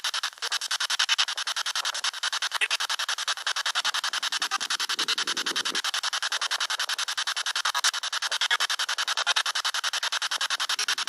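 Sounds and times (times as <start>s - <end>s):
choppy radio static: 0.0s - 11.0s
muffled radio fragment: 0.0s - 11.0s.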